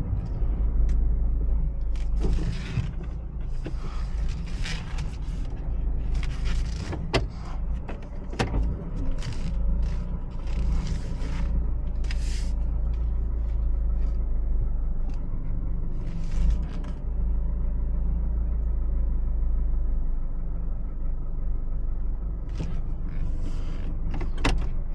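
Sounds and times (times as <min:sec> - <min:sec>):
car engine and road hum: 0:00.0 - 0:24.9.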